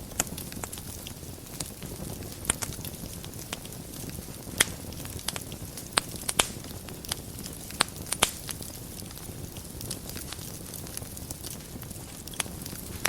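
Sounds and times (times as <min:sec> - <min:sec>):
fire crackling and popping: 0:00.0 - 0:13.0
wood fire burning: 0:00.0 - 0:13.0.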